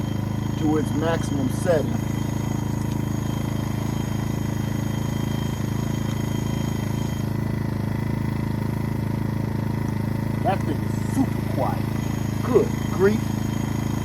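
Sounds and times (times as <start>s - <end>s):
faint high whine: 0.0s - 14.0s
generator humming: 0.0s - 14.0s.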